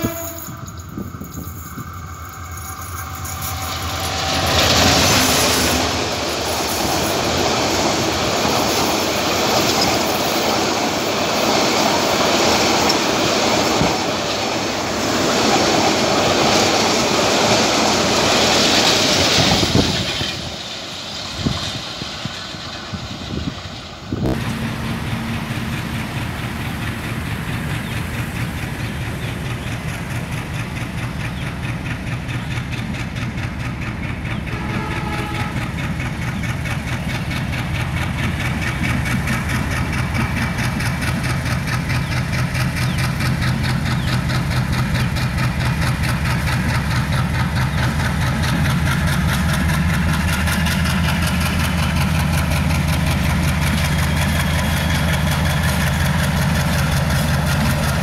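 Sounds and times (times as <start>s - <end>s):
diesel locomotive idling: 0.0s - 58.0s
passenger train passing: 0.0s - 58.0s
wheels clacking on rails: 0.0s - 58.0s.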